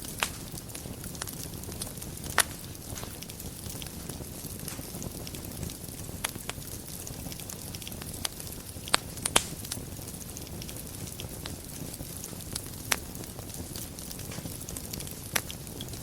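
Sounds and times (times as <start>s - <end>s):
fire pops: 0.0s - 16.0s
wood fire crackling: 0.0s - 16.0s.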